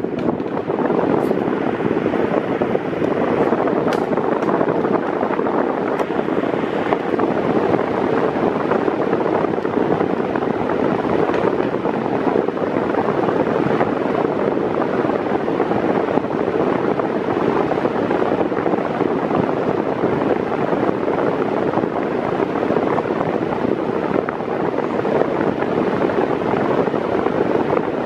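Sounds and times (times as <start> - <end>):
electric fan blowing air: 0.0 - 28.0.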